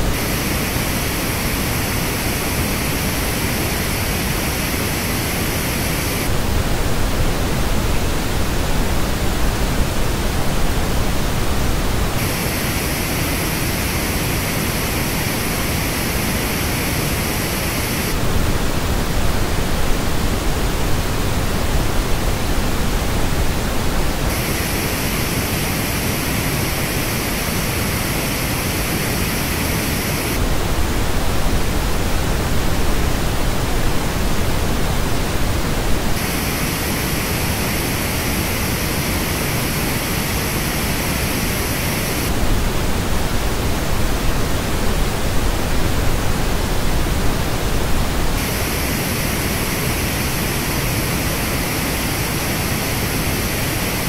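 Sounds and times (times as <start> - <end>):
pink noise: 0.0 - 54.0.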